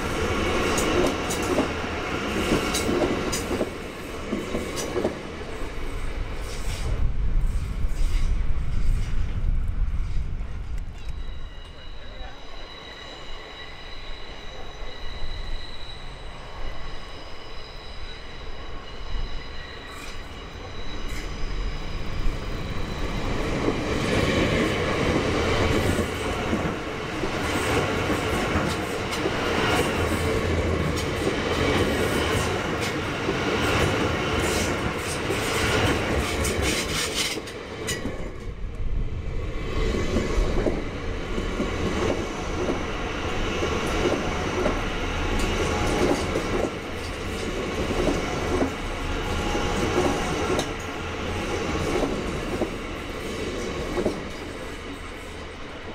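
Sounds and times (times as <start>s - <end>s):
train rumble passing: 0.0s - 55.9s
train whine: 0.0s - 55.9s.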